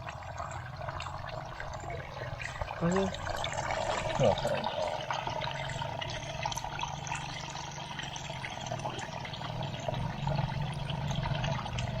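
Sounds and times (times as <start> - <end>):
water running steadily: 0.0 - 12.0.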